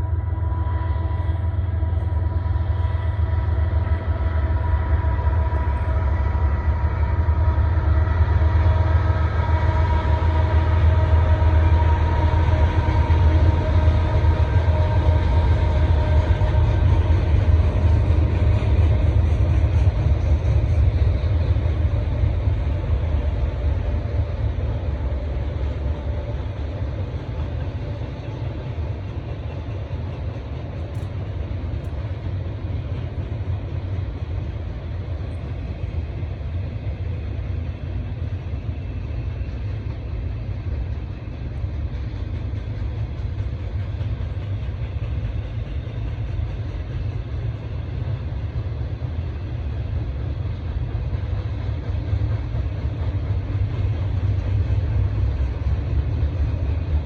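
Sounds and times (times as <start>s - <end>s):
train rolling past: 0.0s - 57.0s.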